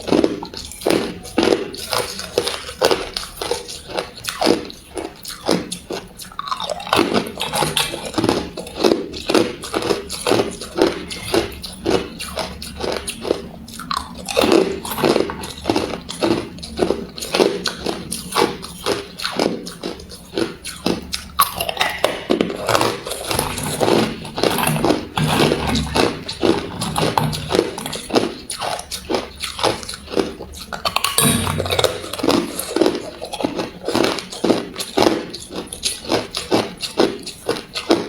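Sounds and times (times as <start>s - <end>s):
person crunching ice: 5.3s - 38.0s.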